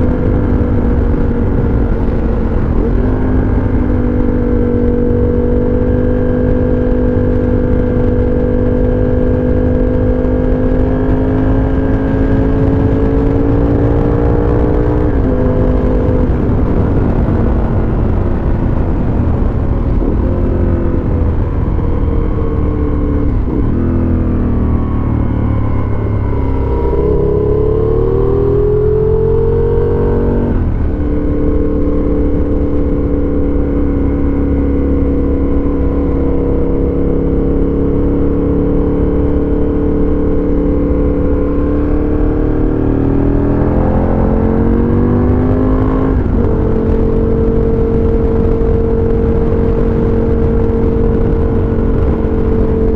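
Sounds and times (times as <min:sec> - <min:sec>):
motorcycle engine shifting gears: 0:00.0 - 0:52.9.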